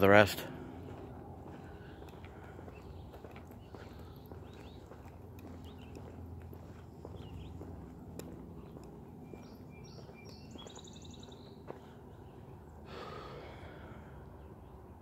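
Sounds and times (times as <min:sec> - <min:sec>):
faint outdoor background noise: 0:00.0 - 0:15.0
songbird chirping and trilling: 0:00.8 - 0:12.8.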